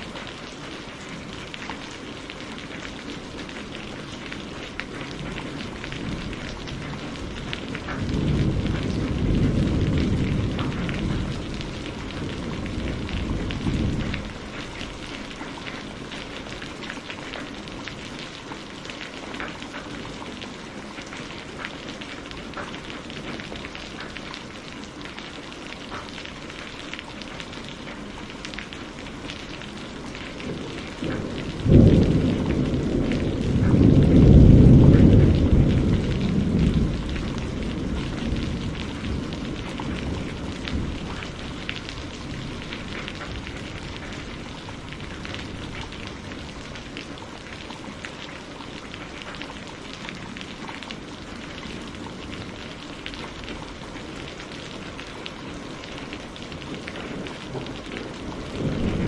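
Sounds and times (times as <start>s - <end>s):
thunder rumbling: 0.0s - 18.4s, 27.3s - 59.0s
rain patter: 0.0s - 59.0s.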